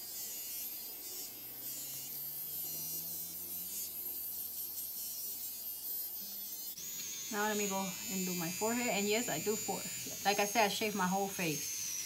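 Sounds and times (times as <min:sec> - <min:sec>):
facial hair remover buzzing: 0:00.0 - 0:12.0.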